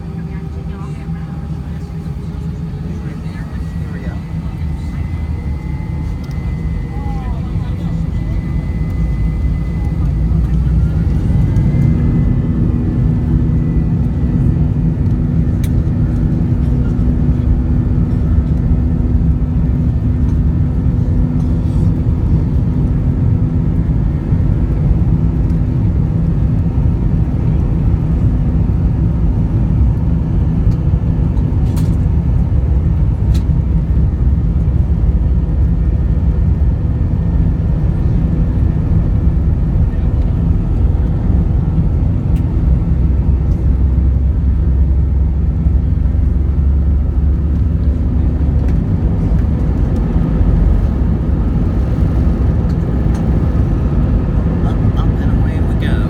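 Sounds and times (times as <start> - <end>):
jet engines at takeoff thrust: 0.0 - 56.0
wheels rumbling on runway: 0.0 - 56.0.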